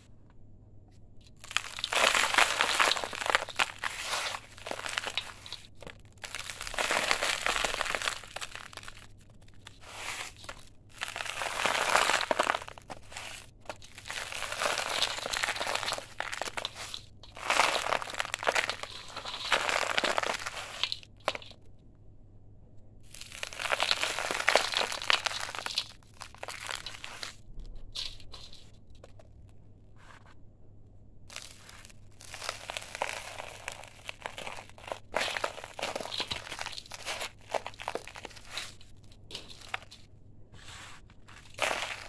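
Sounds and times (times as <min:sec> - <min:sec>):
cement chunks crumbling between fingers: 0:01.2 - 0:21.7, 0:23.0 - 0:29.5, 0:31.3 - 0:40.1, 0:41.0 - 0:42.0.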